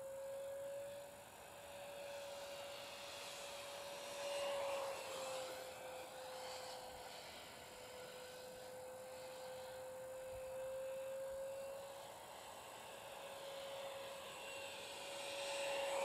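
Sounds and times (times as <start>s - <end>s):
model jet fan whining: 0.0s - 16.0s.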